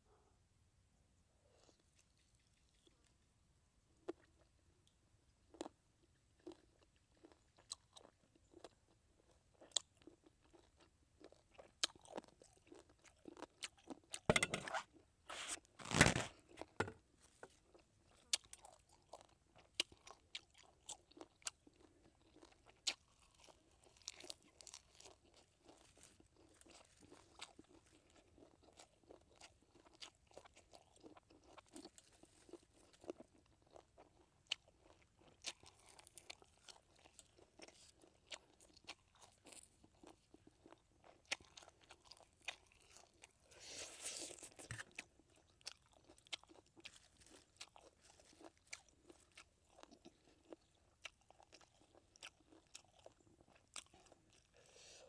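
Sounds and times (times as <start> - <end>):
person chewing crisp lettuce: 1.5 - 3.2, 5.5 - 55.0.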